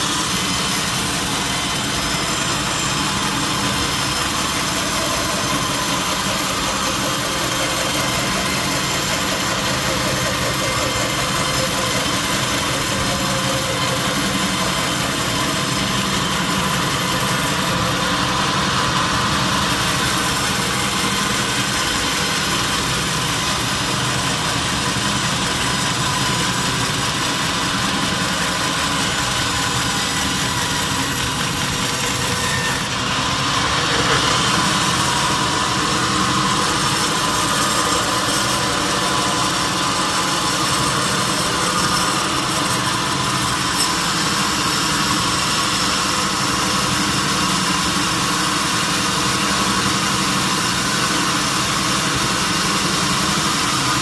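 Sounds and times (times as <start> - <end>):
high steady whine: 0.0 - 54.0
sawmill machinery humming: 0.0 - 54.0.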